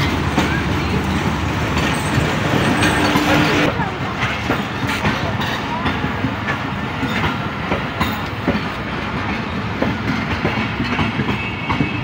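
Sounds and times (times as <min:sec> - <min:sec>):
train wheels rumbling on track: 0:00.0 - 0:12.0
wheels clacking over rail joints: 0:00.0 - 0:12.0.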